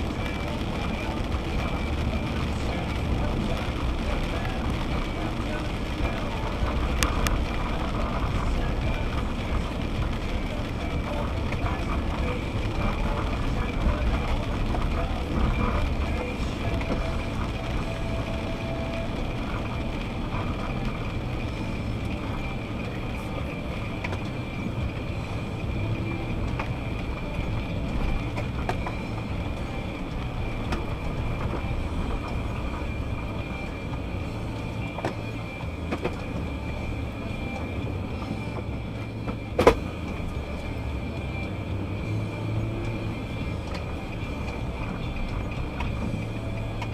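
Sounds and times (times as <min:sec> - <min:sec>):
car engine and tyres rumbling: 0:00.0 - 0:46.9.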